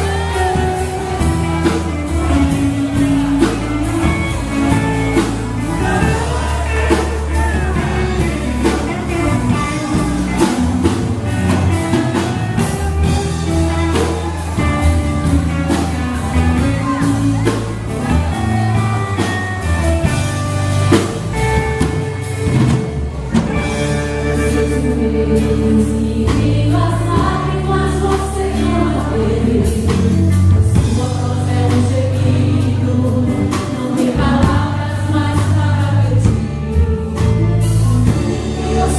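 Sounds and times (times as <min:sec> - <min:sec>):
bass line: 0:00.0 - 0:38.9
gospel band with singing: 0:00.0 - 0:38.9
steady drums: 0:00.0 - 0:38.9.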